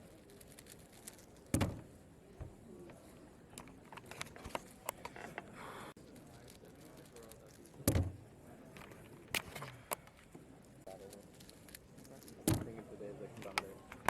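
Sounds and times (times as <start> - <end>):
low room murmur: 0.0 - 14.0.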